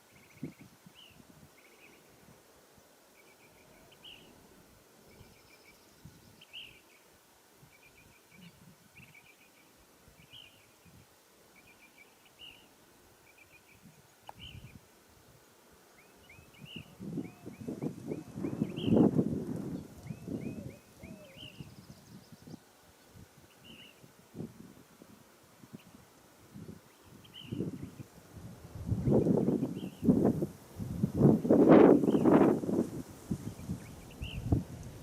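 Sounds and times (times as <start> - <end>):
faint birdsong chirps and trills: 0.0 - 24.5, 25.6 - 28.2, 28.9 - 30.3, 31.3 - 32.7, 33.3 - 34.6.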